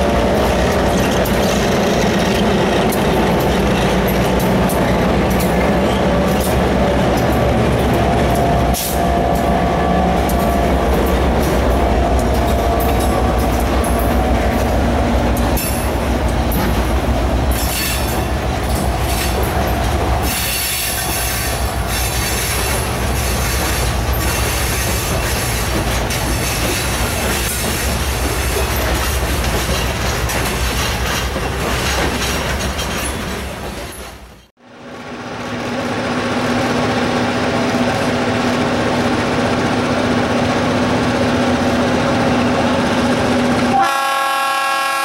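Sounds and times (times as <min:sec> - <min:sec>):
steel train wheels rumbling on rail: 0:00.0 - 0:45.0.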